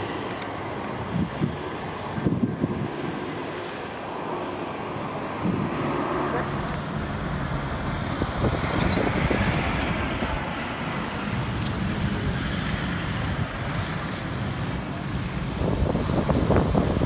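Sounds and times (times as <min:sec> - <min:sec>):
diesel truck engines rumbling: 0:00.0 - 0:17.0.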